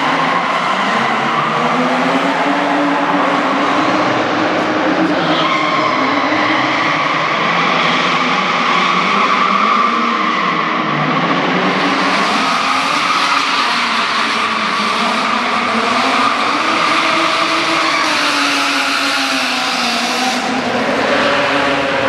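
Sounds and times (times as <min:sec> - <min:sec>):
car engines at high revs: 0:00.0 - 0:22.0.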